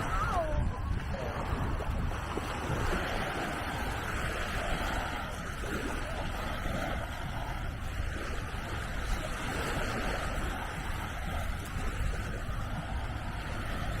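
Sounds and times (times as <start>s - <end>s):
sea waves washing onto beach: 0.0s - 14.0s
wind rumbling on microphone: 0.0s - 14.0s.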